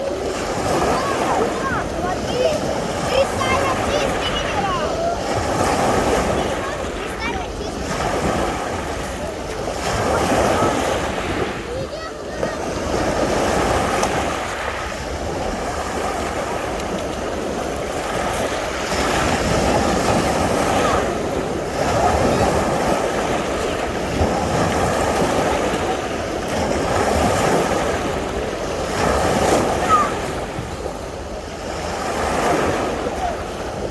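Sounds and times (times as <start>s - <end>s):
waves washing onto a beach: 0.0s - 33.9s.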